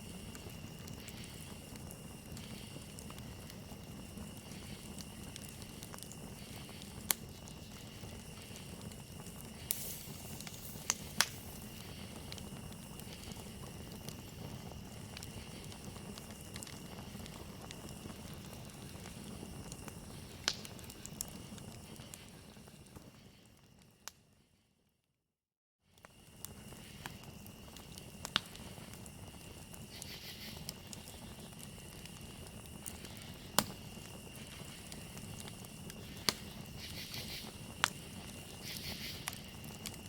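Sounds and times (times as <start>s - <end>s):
fire popping and crackling: 0.0s - 24.2s, 25.9s - 40.0s
crickets chirring: 0.0s - 24.4s, 26.0s - 40.0s
campfire burning: 0.0s - 24.5s, 25.9s - 40.0s.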